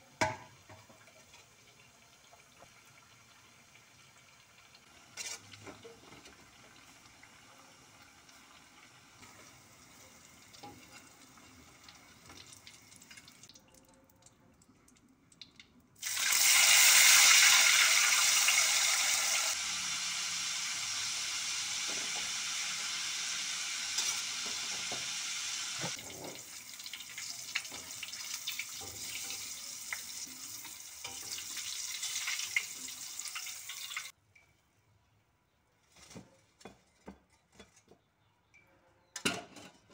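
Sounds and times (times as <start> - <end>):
tofu frying in hot oil: 0.2 - 13.5, 15.4 - 34.2.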